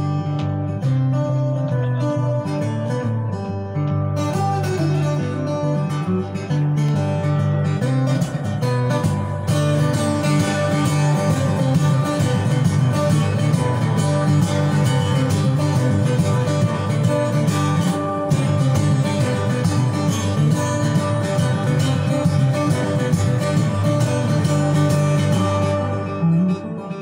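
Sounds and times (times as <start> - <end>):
solo guitar plucking: 0.0 - 27.0.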